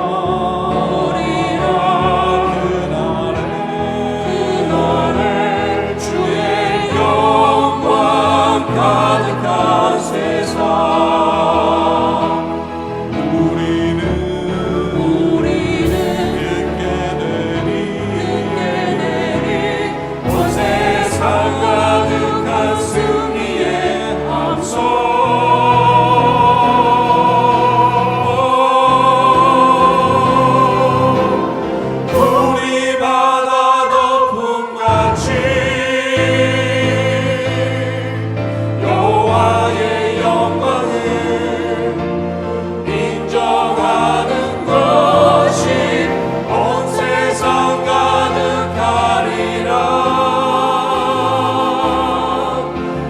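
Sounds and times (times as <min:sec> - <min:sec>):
church choir singing a hymn: 0:00.0 - 0:53.0.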